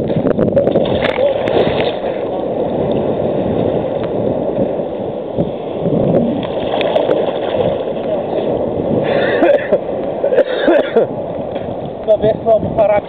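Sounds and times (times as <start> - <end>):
seawater sloshing and gurgling: 0.0 - 13.0
water splashes: 0.0 - 13.0.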